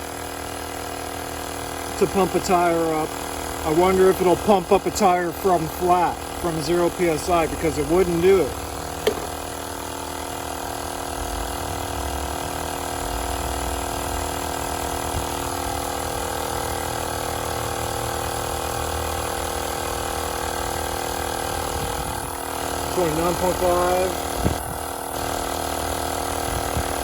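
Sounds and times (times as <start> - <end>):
tire pump running: 0.0 - 27.0.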